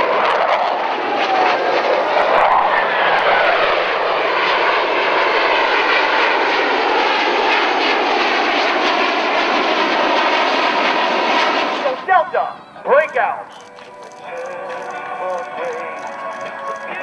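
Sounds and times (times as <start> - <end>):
jet passing with falling whine: 0.0 - 17.0
jets roaring overhead: 0.0 - 17.0.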